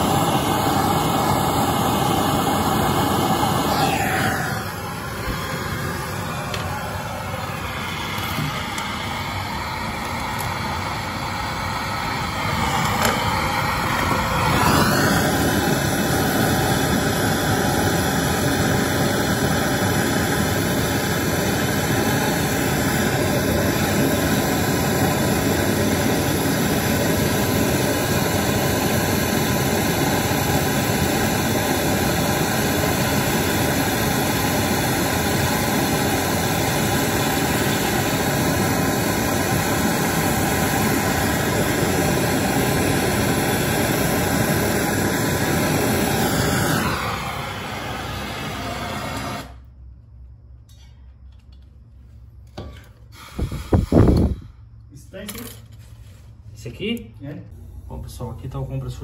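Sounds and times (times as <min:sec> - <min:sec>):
gas torch hissing: 0:00.0 - 0:49.8, 0:52.6 - 0:55.0, 0:57.0 - 0:59.0.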